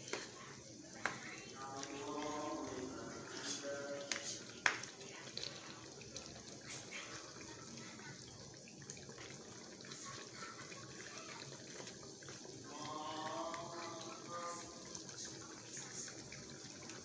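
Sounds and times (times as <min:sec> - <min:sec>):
soup simmering with bubbling hiss: 0:00.0 - 0:17.0
spatula stirring soup: 0:00.0 - 0:17.0.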